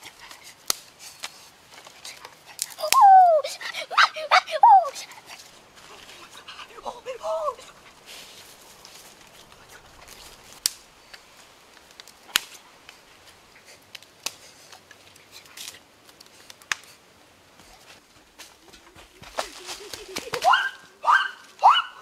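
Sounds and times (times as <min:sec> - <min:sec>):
campfire crackling and popping: 0:00.0 - 0:03.7, 0:04.9 - 0:21.7
leaves rustling: 0:00.0 - 0:22.0.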